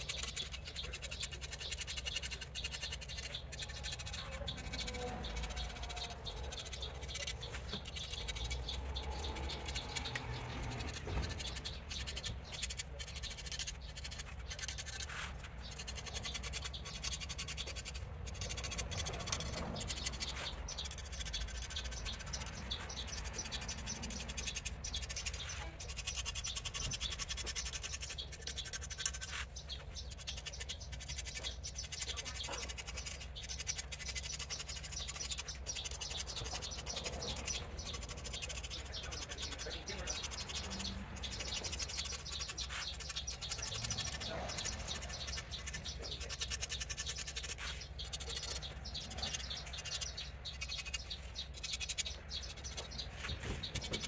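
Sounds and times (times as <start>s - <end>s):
hand tool scratching a shaft: 0.0s - 54.0s.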